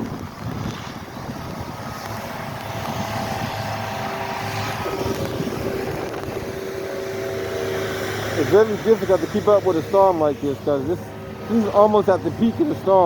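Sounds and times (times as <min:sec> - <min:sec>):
vehicle engine humming: 0:00.0 - 0:13.0
wind rumble on microphone: 0:00.0 - 0:13.0.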